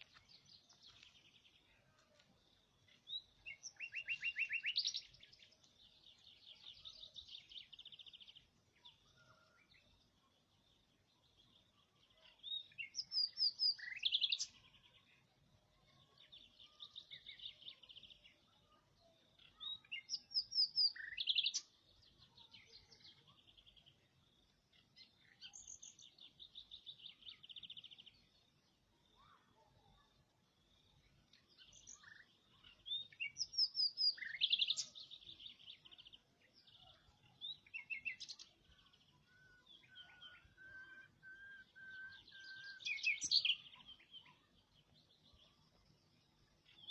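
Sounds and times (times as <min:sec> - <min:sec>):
songbird singing trills: 0:00.0 - 0:46.9.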